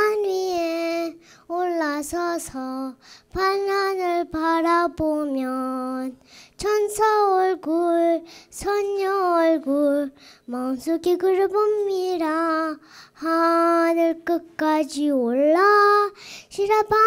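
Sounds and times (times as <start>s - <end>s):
girl singing unaccompanied: 0.0s - 17.0s.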